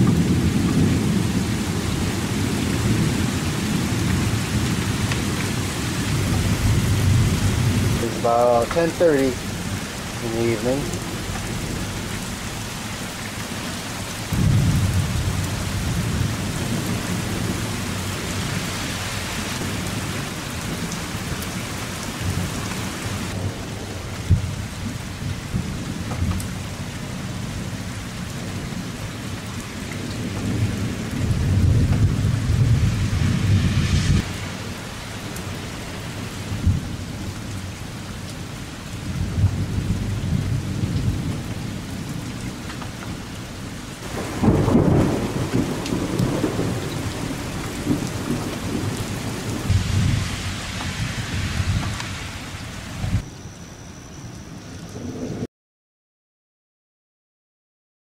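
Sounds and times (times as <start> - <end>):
thunder rumbling: 0.0 - 37.8, 38.9 - 43.2, 44.0 - 53.3
heavy rain falling: 0.0 - 53.4.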